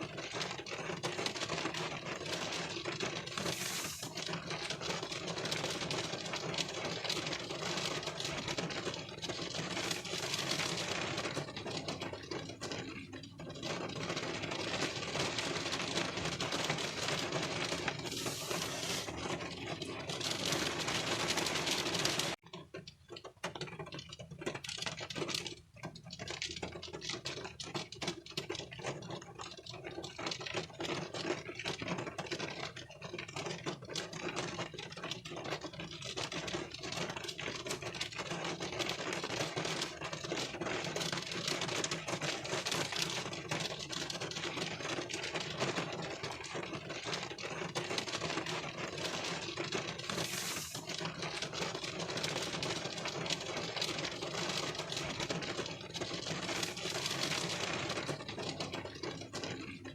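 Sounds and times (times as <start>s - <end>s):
rain on car windshield: 0.0s - 59.9s.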